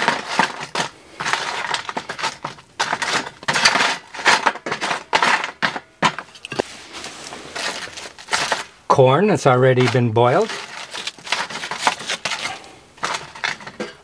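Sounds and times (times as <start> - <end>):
coal pieces clinking: 0.0 - 6.6, 7.6 - 8.8, 9.7 - 14.0
charcoal scraping on metal tray: 0.0 - 8.8, 9.4 - 14.0.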